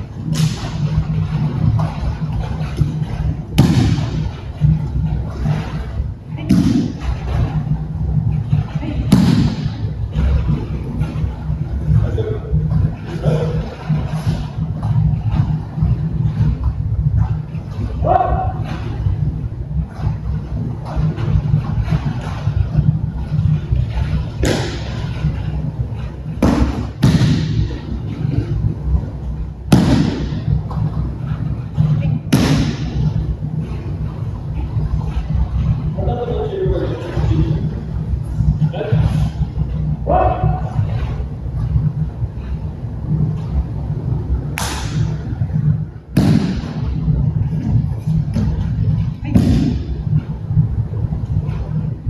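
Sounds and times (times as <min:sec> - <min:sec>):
bodies slapping a training mat: 0:00.0 - 0:35.8, 0:44.4 - 0:51.9
low rumble: 0:00.0 - 0:52.0.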